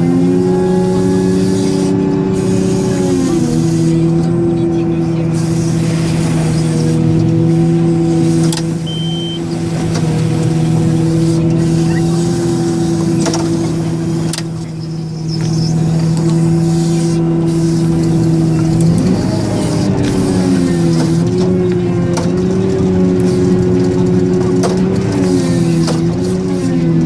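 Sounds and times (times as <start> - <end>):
diesel engine running at high revs: 0.0 - 27.0.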